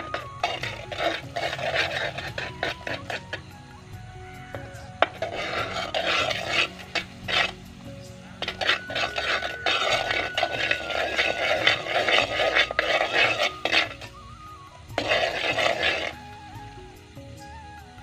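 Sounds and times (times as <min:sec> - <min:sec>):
ladle scraping a clay pot: 0:00.0 - 0:17.2
oil bubbling: 0:00.0 - 0:18.0
soft background music: 0:00.0 - 0:18.0.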